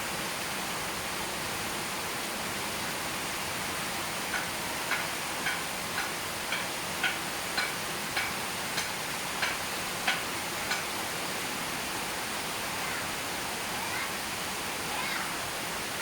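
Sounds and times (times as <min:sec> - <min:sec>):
rainfall hiss: 0:00.0 - 0:16.0.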